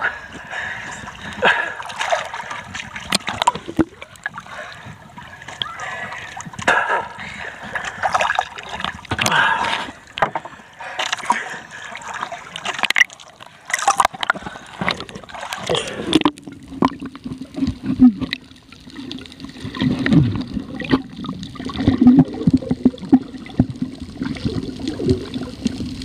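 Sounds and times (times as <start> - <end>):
sea water splashing: 0.0 - 26.0.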